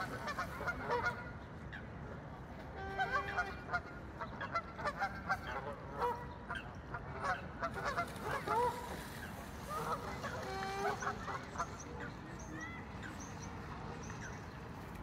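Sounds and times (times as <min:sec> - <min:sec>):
waterbirds calling: 0:00.0 - 0:15.0.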